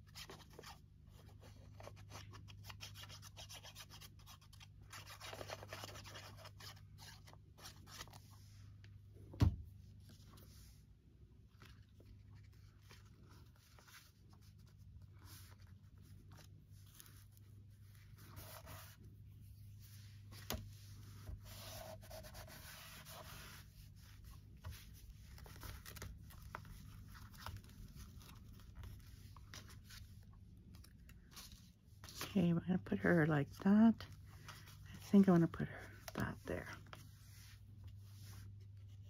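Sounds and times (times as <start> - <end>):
paper rustling and rubbing: 0.0 - 8.6, 11.5 - 32.3, 34.0 - 39.0
low steady hum: 0.0 - 39.0.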